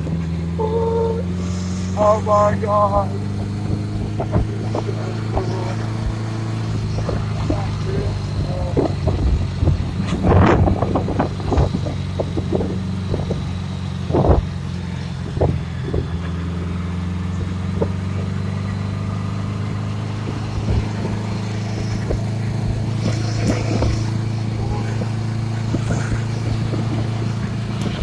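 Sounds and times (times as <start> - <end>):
small motorcycle engine running: 0.0 - 28.0
knocks and clatters: 3.3 - 28.0.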